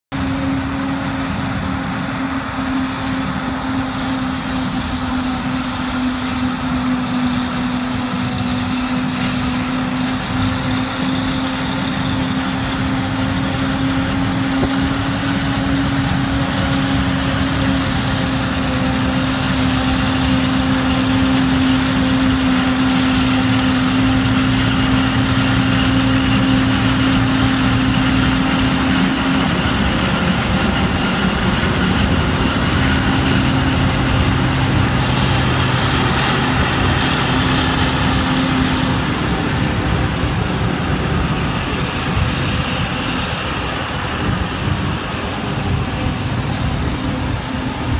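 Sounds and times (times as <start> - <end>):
tractor engine running: 0.1 - 47.9
forage harvester chopping maize: 0.6 - 39.6.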